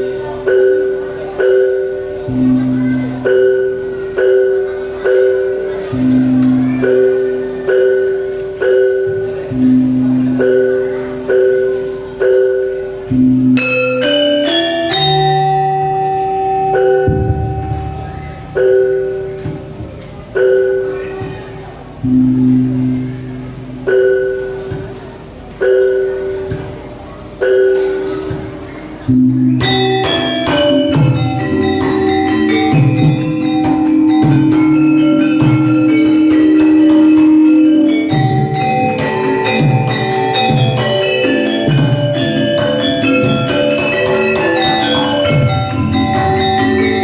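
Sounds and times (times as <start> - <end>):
gamelan single struck notes: 0.0 - 25.0, 25.6 - 47.0
ringing metallophone melody: 0.0 - 47.0.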